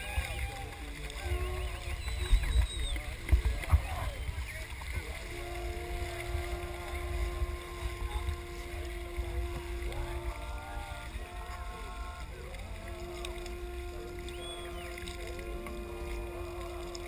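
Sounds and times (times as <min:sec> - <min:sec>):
long steady pitched tones: 0:00.0 - 0:17.0
wind rumble on microphone: 0:00.0 - 0:17.0.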